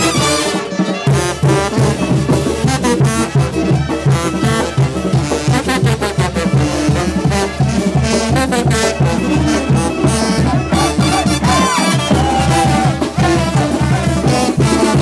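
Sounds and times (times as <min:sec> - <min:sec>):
brass band playing dance tune: 0:00.0 - 0:15.0.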